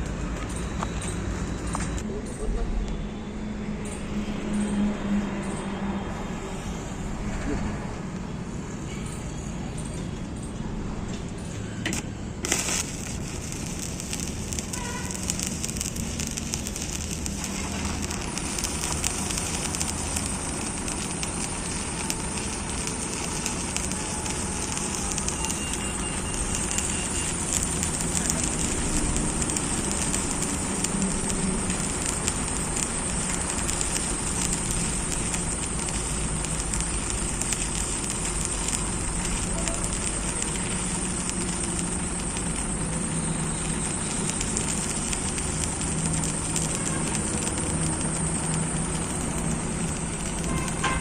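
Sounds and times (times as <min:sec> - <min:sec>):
welding arc crackling and sizzling: 0:00.0 - 0:03.0, 0:03.6 - 0:51.0.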